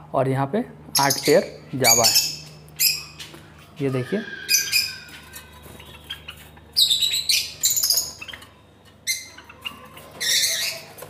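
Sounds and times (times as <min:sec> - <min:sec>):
caged birds chirping: 0:00.2 - 0:11.0.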